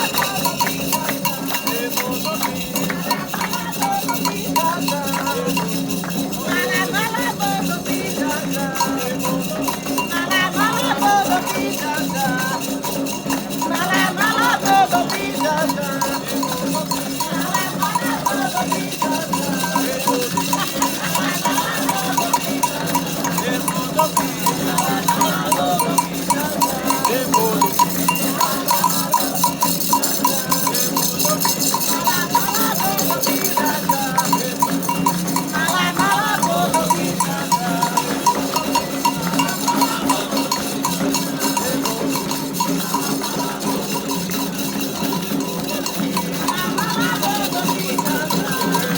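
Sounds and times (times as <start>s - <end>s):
hand drums beating: 0.0s - 48.9s
metal bell beat: 0.0s - 48.9s
voices singing wavering: 0.0s - 48.9s.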